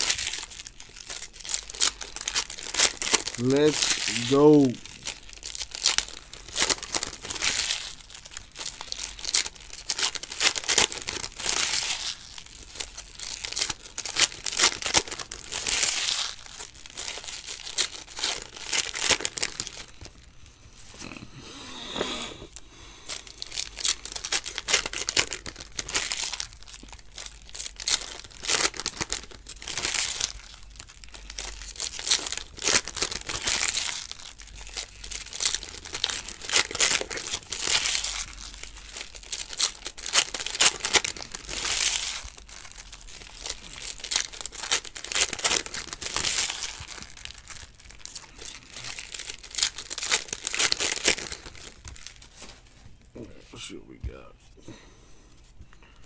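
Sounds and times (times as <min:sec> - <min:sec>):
foil wrappers crinkling and tearing: 0:00.0 - 0:20.3, 0:22.5 - 0:53.1.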